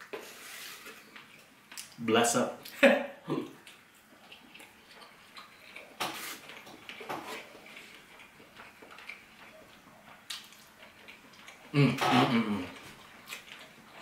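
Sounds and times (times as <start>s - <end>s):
quiet chewing: 0.0s - 2.0s, 2.6s - 14.0s.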